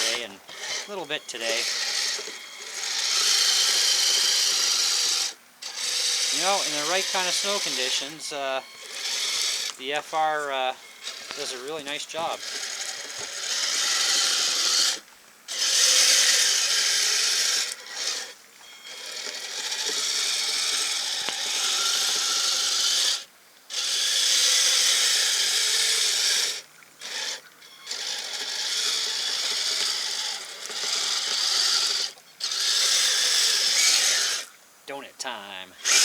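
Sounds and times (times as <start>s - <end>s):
toy vehicle motor and tracks whirring: 0.0s - 34.6s, 35.8s - 36.0s.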